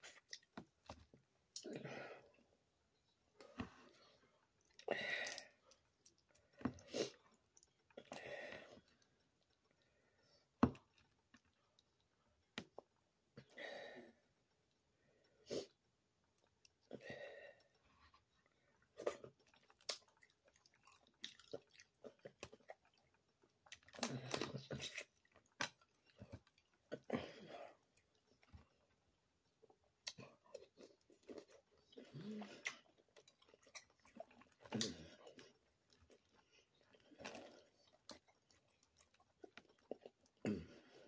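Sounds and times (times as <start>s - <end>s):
close-up chewing and smacking: 0.0s - 1.7s, 3.0s - 13.4s, 15.7s - 27.1s, 27.7s - 41.0s.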